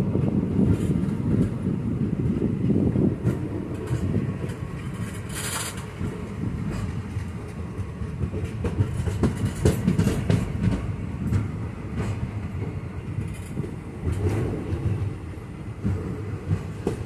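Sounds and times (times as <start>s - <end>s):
train coaches rumbling: 0.0s - 17.0s
wheels clicking over rail joints: 0.1s - 17.0s.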